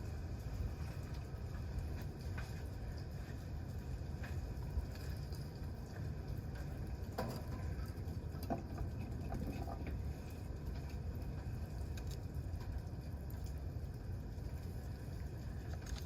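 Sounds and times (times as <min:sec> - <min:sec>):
campfire crackling: 0:00.0 - 0:16.0
steady low rumble: 0:00.0 - 0:16.0.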